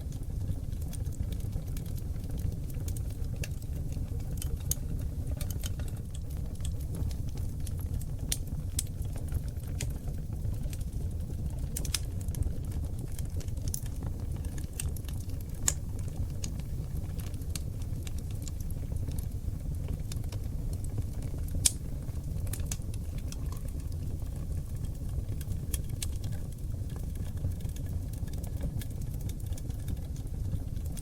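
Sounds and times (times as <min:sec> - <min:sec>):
log fire crackling: 0:00.0 - 0:31.0.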